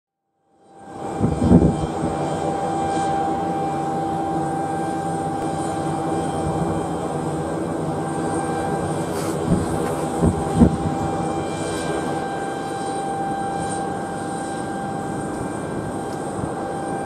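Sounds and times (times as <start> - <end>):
high-pitched jet engine whine: 0.5 - 17.0
jet engines rumbling: 0.8 - 17.0.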